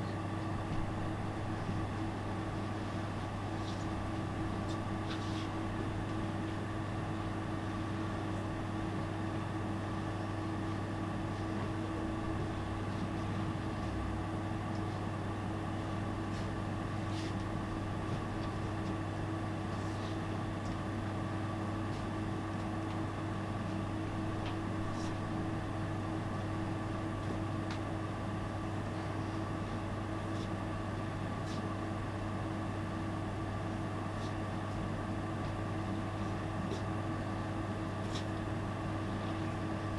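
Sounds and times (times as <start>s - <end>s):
steady hum with low drone: 0.0s - 39.9s.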